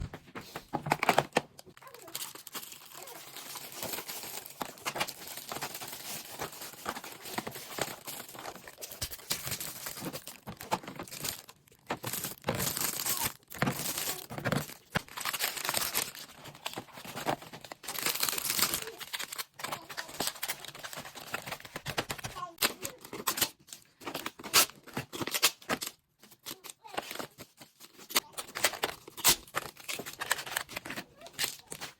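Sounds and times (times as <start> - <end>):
plastic bags crinkling: 0.8 - 31.9.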